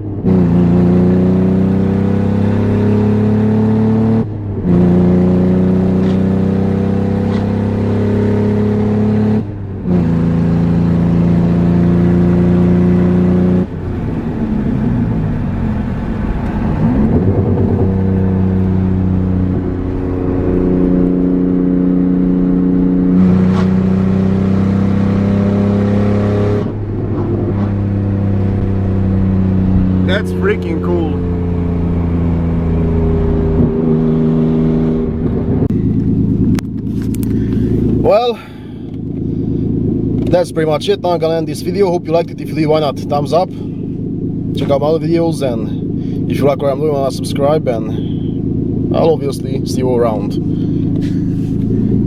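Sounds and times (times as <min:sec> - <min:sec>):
car engine running without exhaust: 0:00.0 - 0:52.0.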